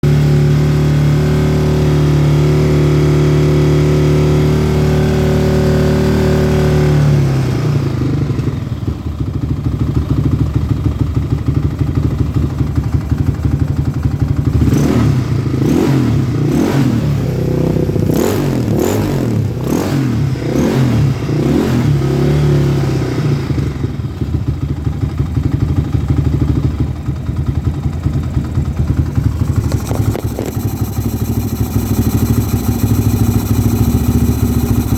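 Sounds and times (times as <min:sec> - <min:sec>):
quad engine idling and revving: 0:00.0 - 0:34.9.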